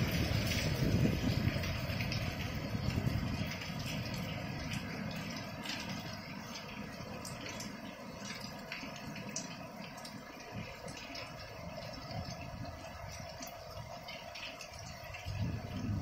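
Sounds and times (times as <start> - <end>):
rain on concrete rooftop: 0.0 - 16.0.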